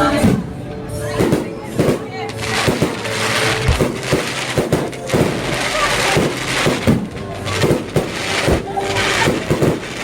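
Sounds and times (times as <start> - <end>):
fireworks bangs and crackling pops: 1.2 - 10.0.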